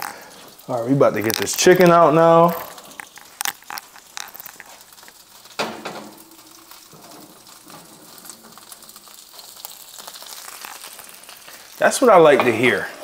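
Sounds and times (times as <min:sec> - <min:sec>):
metal cookware clanking: 0:00.0 - 0:11.4, 0:12.1 - 0:12.9
food sizzling: 0:00.0 - 0:13.0.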